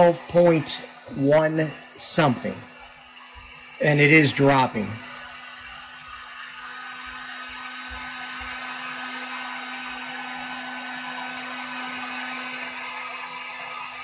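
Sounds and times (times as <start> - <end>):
heat gun blowing whir: 0.0 - 14.0.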